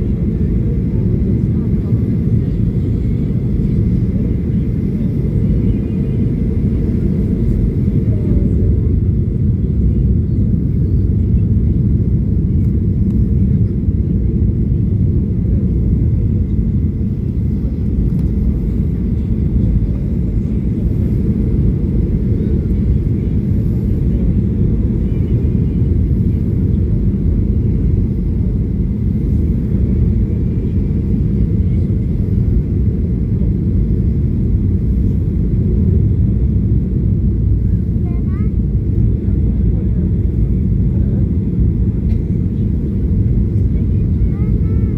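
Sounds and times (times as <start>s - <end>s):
airliner low rumble: 0.0s - 44.9s.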